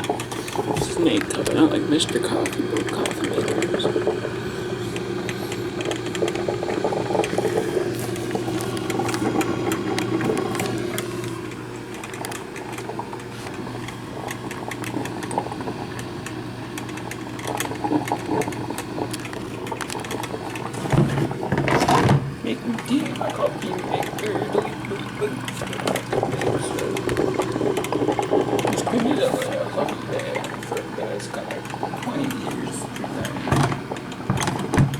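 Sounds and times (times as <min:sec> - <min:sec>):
coffee maker gurgling and crackling: 0:00.0 - 0:34.9
coffee maker humming: 0:00.0 - 0:34.9.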